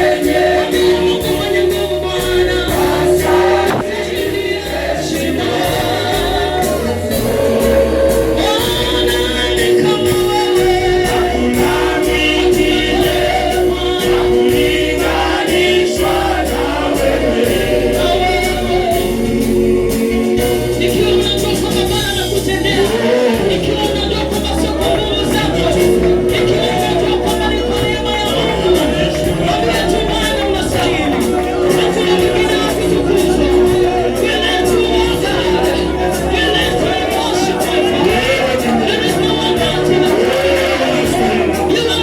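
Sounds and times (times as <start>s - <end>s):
gospel choir singing: 0.0s - 42.0s
instrumental backing with bass and beat: 0.0s - 42.0s.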